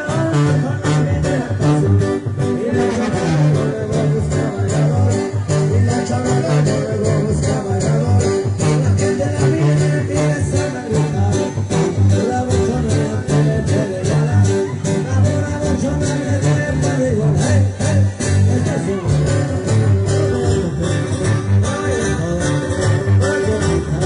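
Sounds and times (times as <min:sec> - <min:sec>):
acoustic guitars strumming: 0:00.0 - 0:24.0
person singing: 0:00.0 - 0:24.0
tuba bass line: 0:00.0 - 0:24.0.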